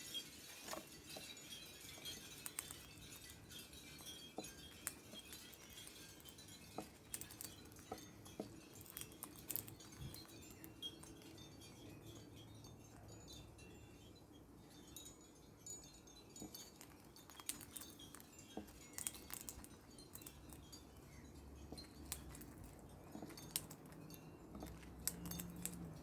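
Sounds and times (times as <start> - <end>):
light clinks and tinkles: 0.0 - 26.0.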